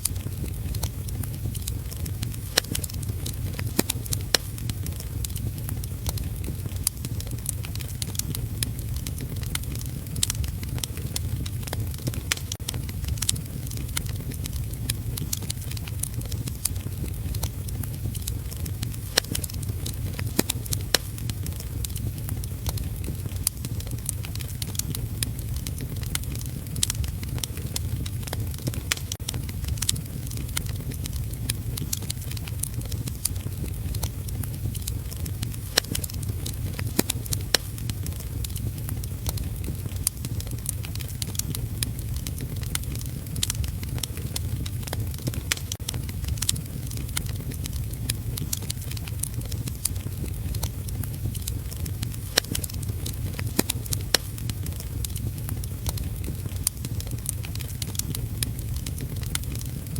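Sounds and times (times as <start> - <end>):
low rumble: 0.0 - 59.9
wood fire crackling and popping: 0.0 - 59.9.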